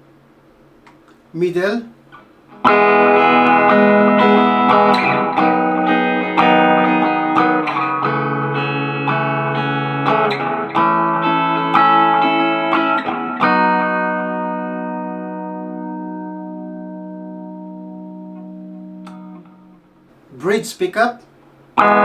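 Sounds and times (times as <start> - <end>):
electric guitar chords with reverb: 2.1 - 20.2, 21.8 - 22.0.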